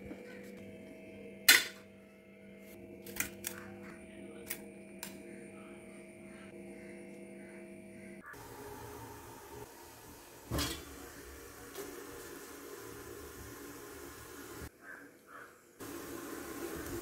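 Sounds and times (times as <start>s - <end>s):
low electrical hum: 0.0s - 14.7s.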